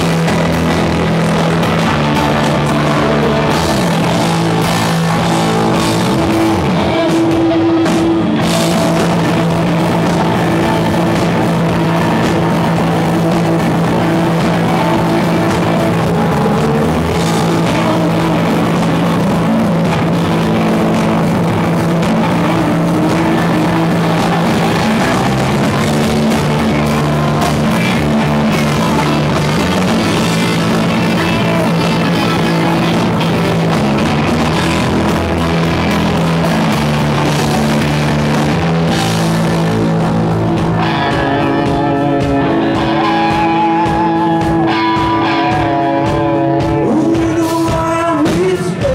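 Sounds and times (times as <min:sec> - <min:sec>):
drum kit: 0:00.0 - 0:48.9
electric guitars: 0:00.0 - 0:48.9.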